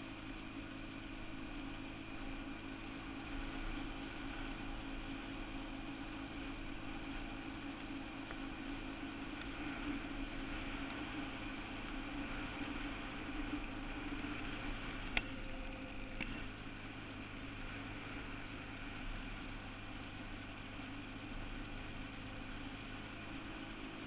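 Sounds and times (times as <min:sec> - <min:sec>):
small engine running steadily: 0:00.0 - 0:24.0.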